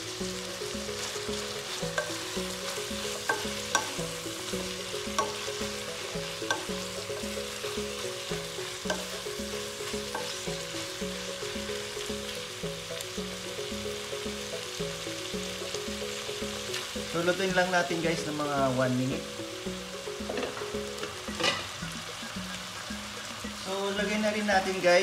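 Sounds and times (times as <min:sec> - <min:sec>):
soft background music: 0:00.0 - 0:25.0
vegetables and shrimp sizzling: 0:00.0 - 0:25.0.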